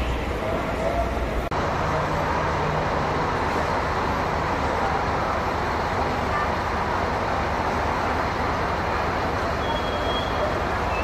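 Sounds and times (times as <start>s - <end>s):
bus engine hum: 0.0s - 11.0s
road and traffic noise: 0.0s - 11.0s.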